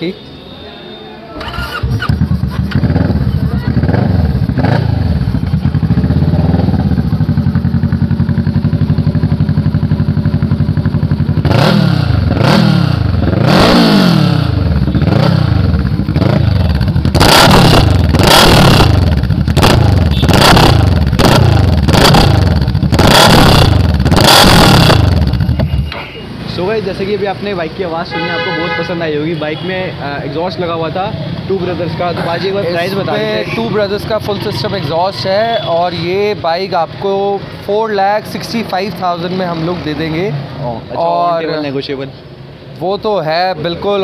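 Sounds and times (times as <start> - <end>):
motorcycle engine idling and revving: 1.4 - 28.0, 30.0 - 42.6.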